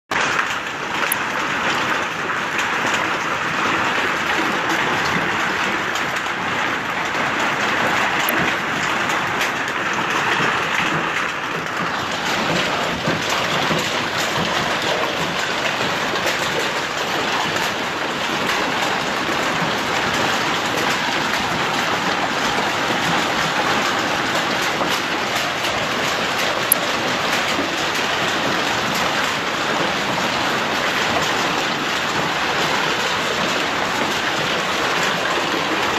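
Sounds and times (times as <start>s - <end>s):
hail and rain pelting ground: 0.1s - 35.9s.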